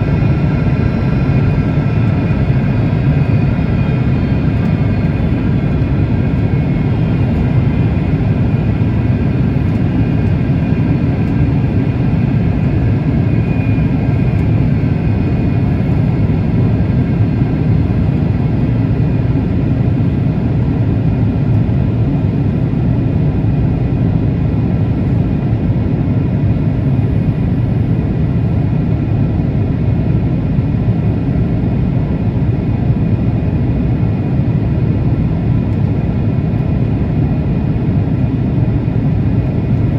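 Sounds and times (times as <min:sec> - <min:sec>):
airliner engine and airflow rumble: 0:00.0 - 0:39.9.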